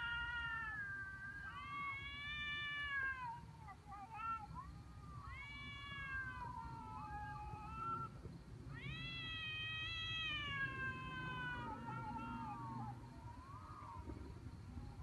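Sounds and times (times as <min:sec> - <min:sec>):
cats yowling in a fight: 0:00.0 - 0:03.4, 0:04.1 - 0:14.1.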